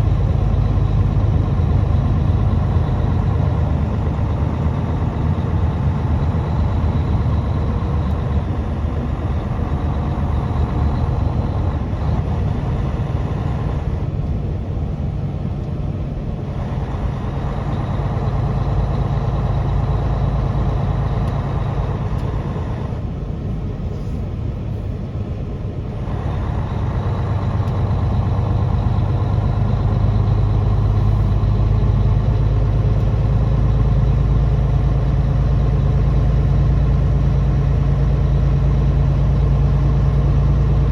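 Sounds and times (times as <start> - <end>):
diesel truck engine droning: 0.0 - 40.9.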